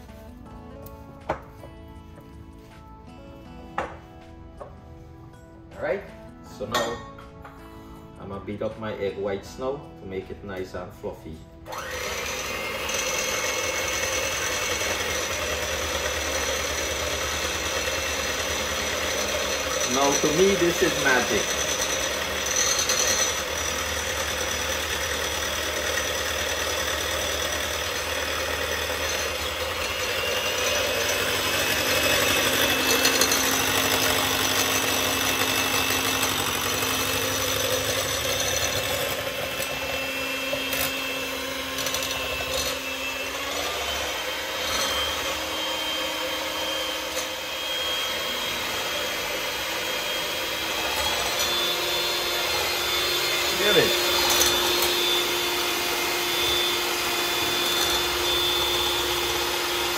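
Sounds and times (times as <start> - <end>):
electric hand mixer whipping: 11.6 - 59.9.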